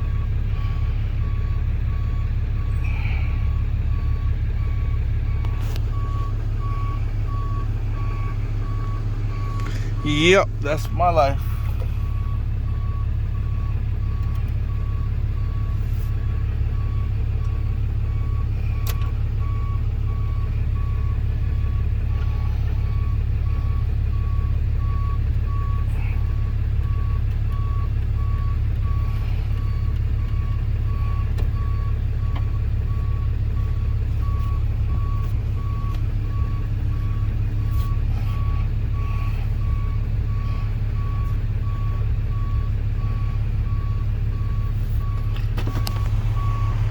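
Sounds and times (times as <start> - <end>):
reversing alarm beeping: 0.0 - 46.9
truck engine running: 0.0 - 46.9.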